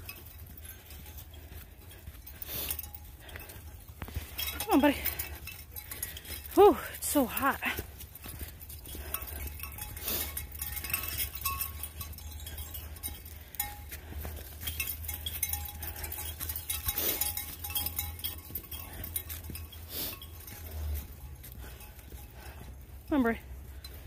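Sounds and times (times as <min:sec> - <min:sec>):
light metallic clinking: 0:00.0 - 0:24.0.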